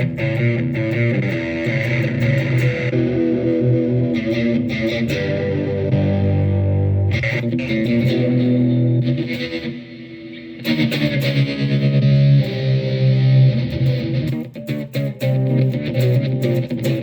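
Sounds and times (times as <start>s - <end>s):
electric guitar with effects: 0.0s - 17.0s.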